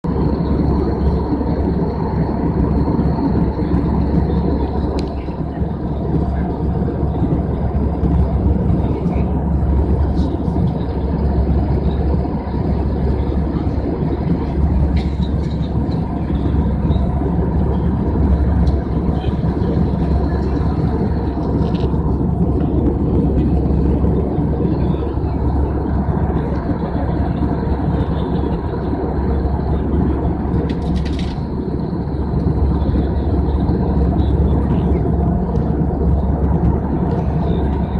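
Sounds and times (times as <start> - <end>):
airliner cabin engine drone: 0.0 - 37.9.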